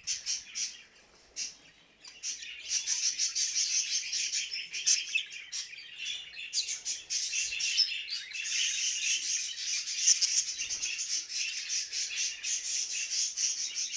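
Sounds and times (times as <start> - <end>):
budgerigars chattering: 2.2 - 13.9.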